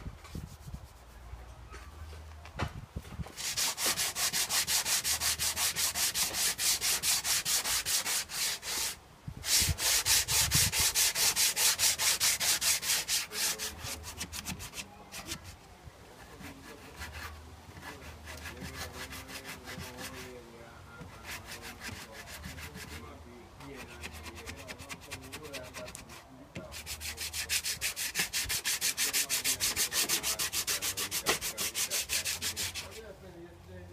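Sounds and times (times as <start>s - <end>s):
sandpaper rubbing painted metal: 3.3s - 15.6s, 16.2s - 20.3s, 21.0s - 23.0s, 23.6s - 33.0s.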